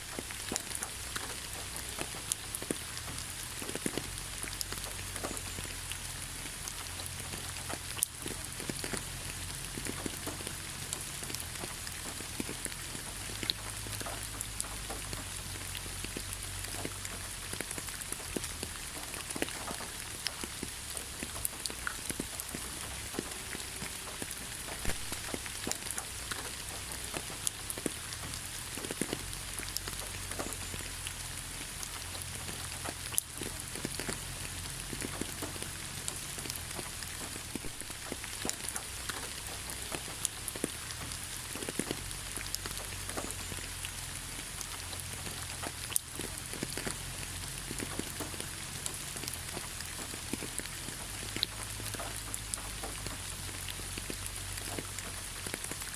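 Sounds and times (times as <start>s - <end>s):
raindrops striking close by: 0.0s - 55.9s
rainfall hiss: 0.0s - 55.9s.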